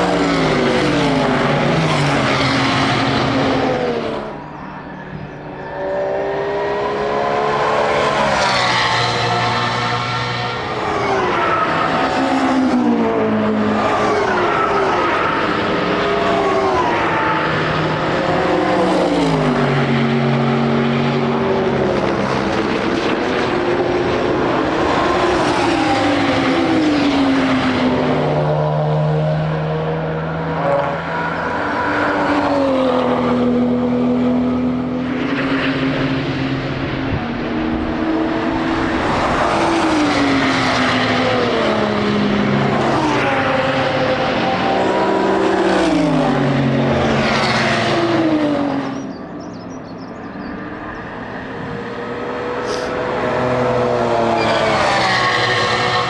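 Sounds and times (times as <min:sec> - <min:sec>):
race cars passing revving: 0:00.0 - 0:56.0.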